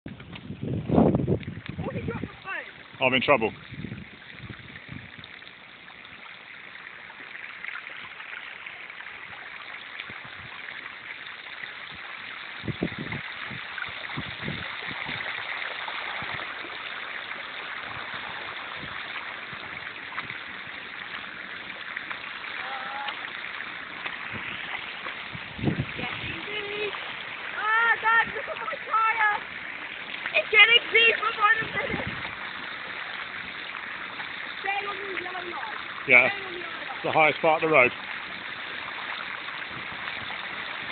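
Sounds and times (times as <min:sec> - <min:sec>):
floodwater rushing: 0:00.1 - 0:40.9.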